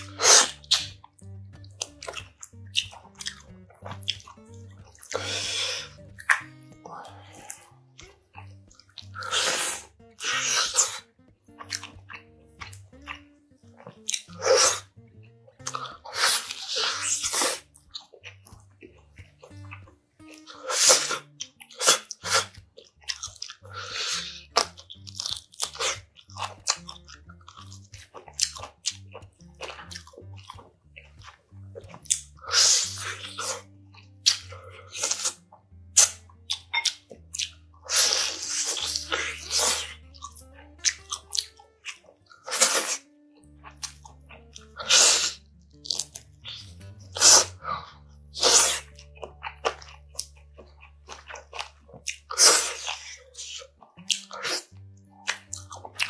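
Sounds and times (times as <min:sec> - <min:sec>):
crunching and chewing: 0:00.0 - 0:56.0
soft background music: 0:00.0 - 0:56.0.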